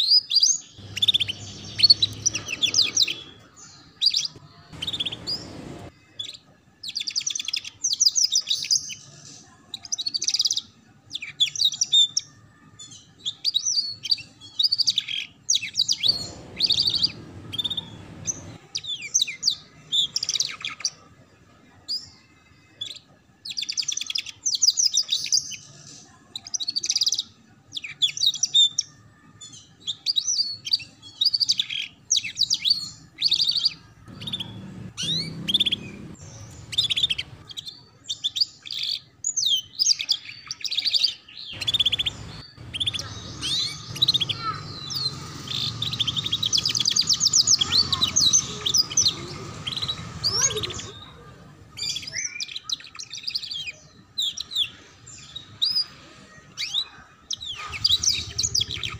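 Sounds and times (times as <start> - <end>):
canary singing trills: 0.0 - 21.1, 21.9 - 58.9.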